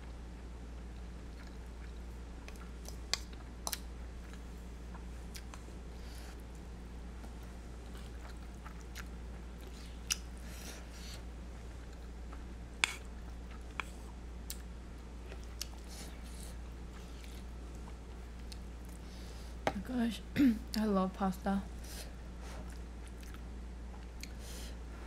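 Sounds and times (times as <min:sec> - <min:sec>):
steady low hum: 0:00.0 - 0:25.0
soft chewing: 0:00.8 - 0:19.8, 0:21.7 - 0:25.0.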